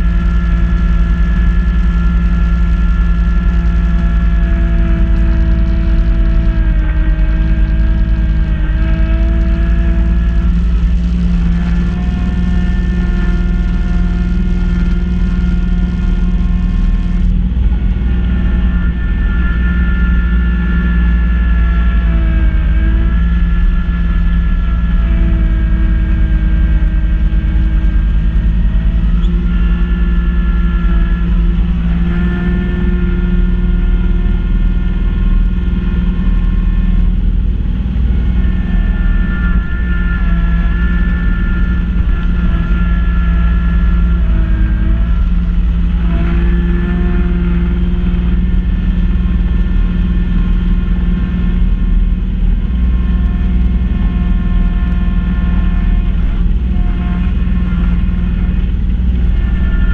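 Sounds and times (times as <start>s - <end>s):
snow blower whine: 0.0s - 59.9s
tractor diesel engine running: 0.0s - 59.9s.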